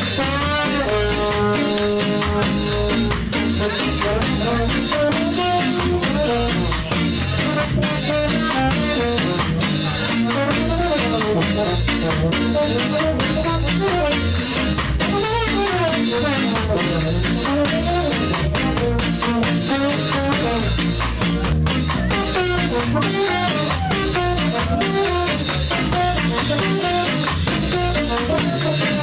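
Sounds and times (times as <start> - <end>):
ska band playing live: 0.0 - 29.0.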